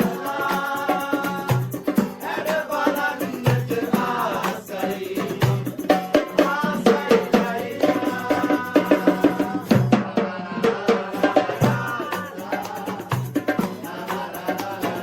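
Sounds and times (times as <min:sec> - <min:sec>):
percussion-driven background music: 0:00.0 - 0:10.2, 0:10.9 - 0:15.0.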